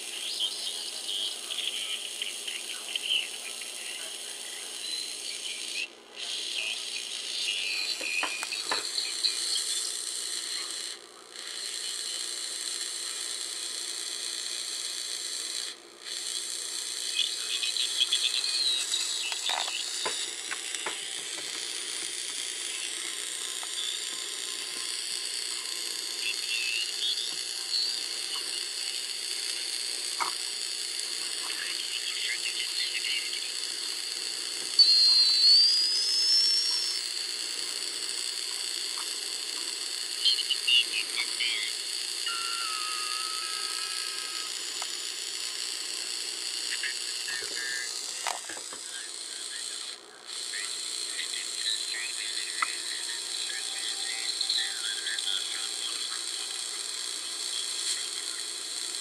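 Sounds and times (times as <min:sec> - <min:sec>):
short steady radio tone: 0:00.0 - 0:59.0
shortwave radio static and hiss: 0:00.0 - 0:59.0.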